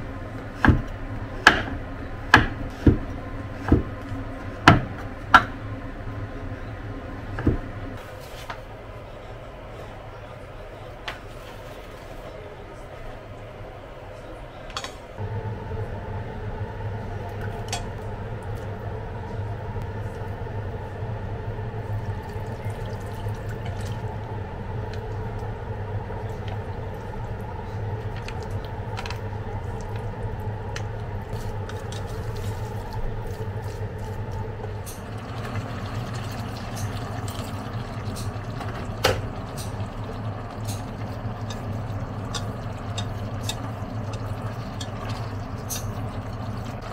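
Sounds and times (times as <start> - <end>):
steady low hum: 0.0 - 11.0, 12.3 - 46.9.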